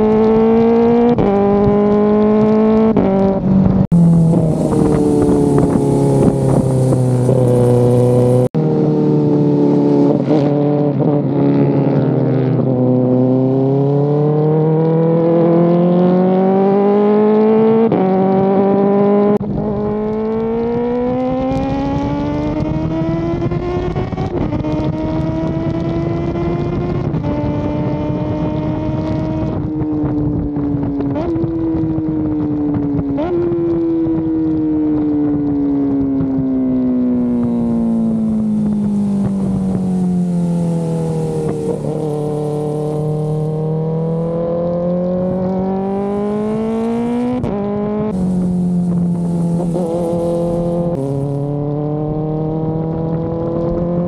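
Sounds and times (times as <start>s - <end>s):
wind buffeting microphone: 0.0s - 8.6s, 17.5s - 54.0s
motorcycle engine revving: 0.0s - 54.0s.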